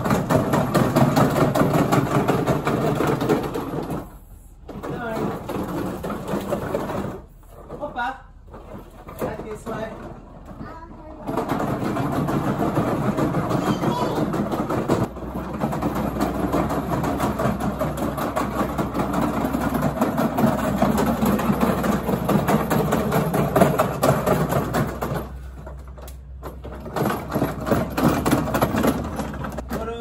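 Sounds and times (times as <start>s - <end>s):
plastic wheels rolling over paving: 0.0s - 30.0s.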